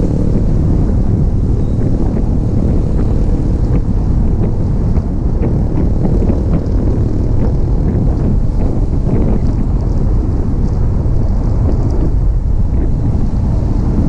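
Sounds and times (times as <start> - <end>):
engine and road noise rumble: 0.0 - 14.0
wind buffeting microphone: 0.0 - 14.0.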